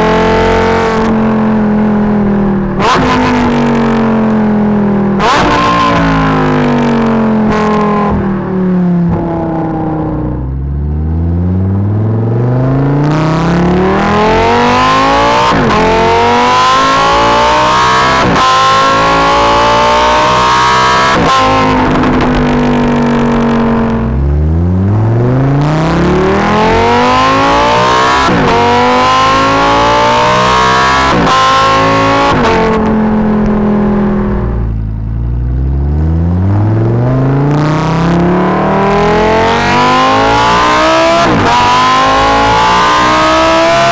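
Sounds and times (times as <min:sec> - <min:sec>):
sports car engine accelerating: 0:00.0 - 0:43.9.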